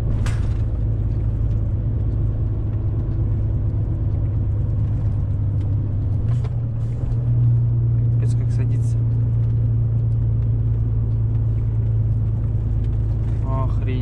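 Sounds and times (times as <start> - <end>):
truck diesel engine under load: 0.0 - 14.0.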